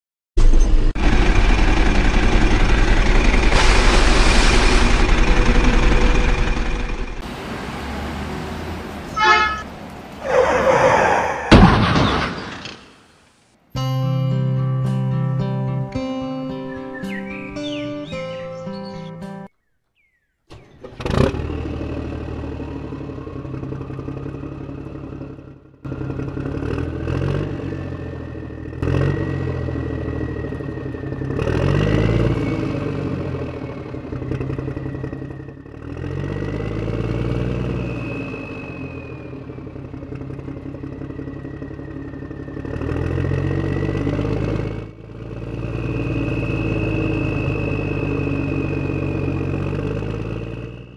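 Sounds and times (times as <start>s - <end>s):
tractor engine revving: 0.4s - 12.9s, 20.5s - 50.9s
engine whine: 0.4s - 13.0s, 20.5s - 50.9s.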